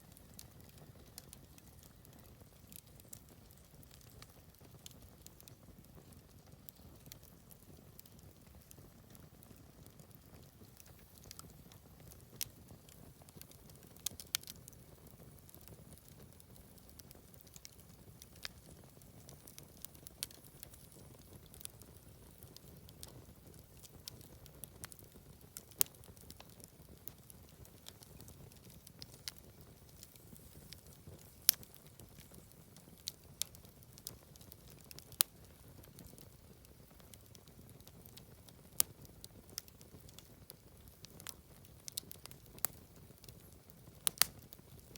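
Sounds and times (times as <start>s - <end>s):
low hiss of burning: 0.0s - 44.9s
wood fire crackling and popping: 0.0s - 44.9s.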